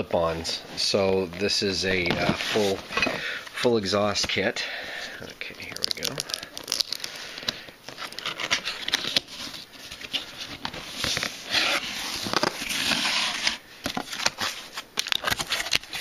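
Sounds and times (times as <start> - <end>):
cardboard and packing rustling: 0.2 - 4.4, 5.6 - 16.0.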